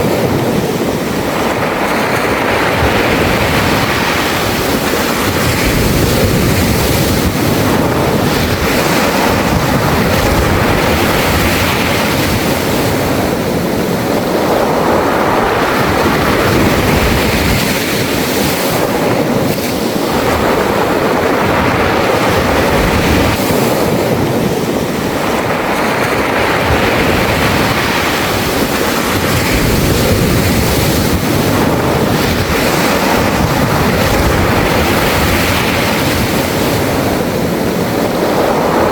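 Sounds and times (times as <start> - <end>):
waves washing over pebbles: 0.0 - 38.9
wind buffeting microphone: 0.0 - 38.9.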